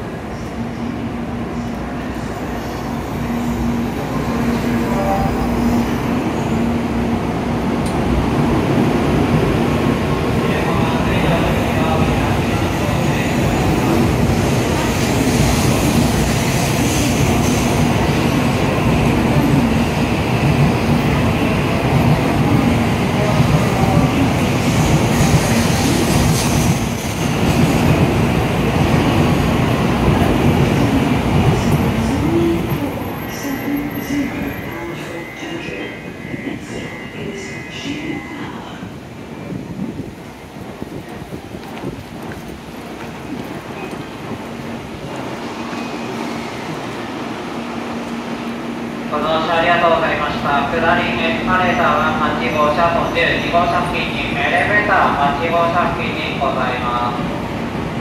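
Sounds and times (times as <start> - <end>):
train rumbling with low hum: 0.0 - 51.2.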